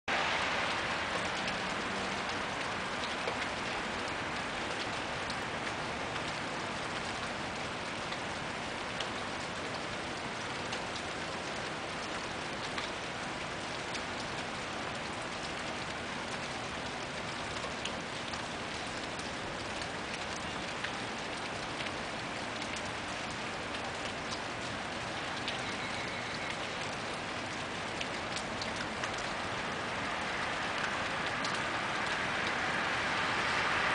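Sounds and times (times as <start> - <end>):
freezing rain hissing and ticking: 0.1 - 33.9.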